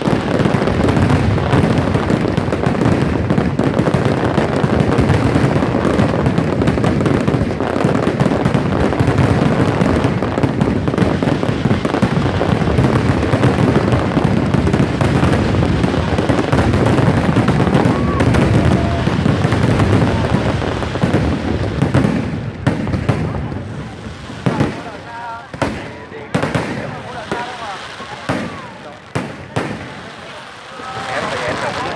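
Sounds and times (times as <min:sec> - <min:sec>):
fireworks bursts and crackling: 0:00.0 - 0:31.9.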